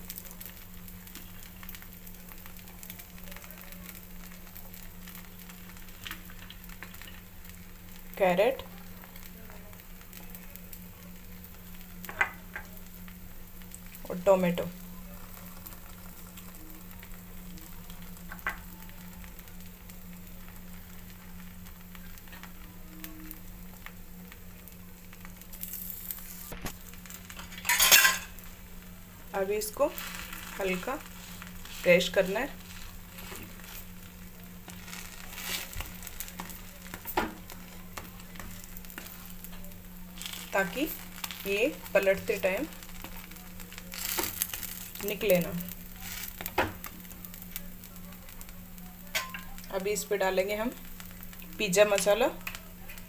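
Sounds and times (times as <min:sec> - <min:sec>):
batter sizzling on a pan: 0:00.0 - 0:53.0
steady low hum: 0:00.0 - 0:53.0.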